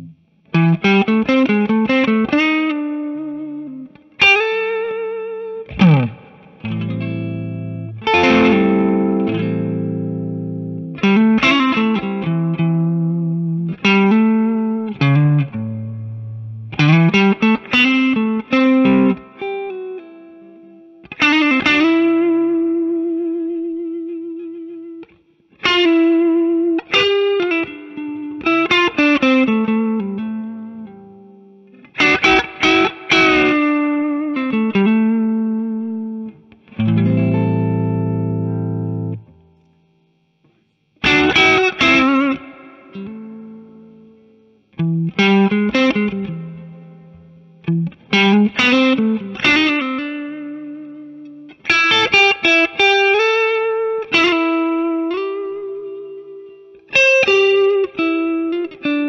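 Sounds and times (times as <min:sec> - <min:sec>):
overdriven electric guitar: 0:00.0 - 0:59.0.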